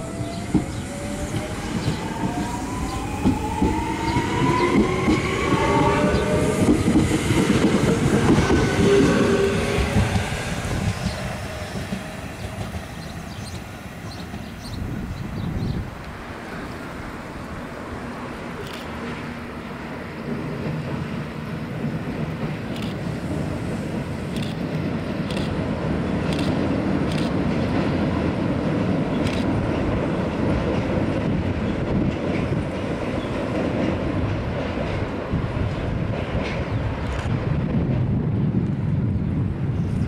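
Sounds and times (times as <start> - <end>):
train rumbling over bridge: 0.0 - 40.0.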